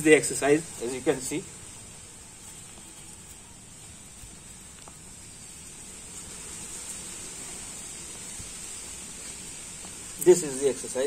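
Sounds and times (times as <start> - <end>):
bare feet on brick path: 0.0 - 11.0
outdoor background hiss: 0.0 - 11.0.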